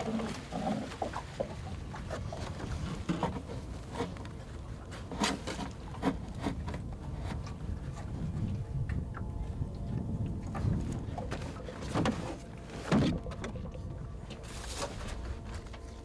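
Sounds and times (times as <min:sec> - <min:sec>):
hands handling tent guylines: 0:00.0 - 0:16.0
low steady rumble: 0:00.0 - 0:16.0.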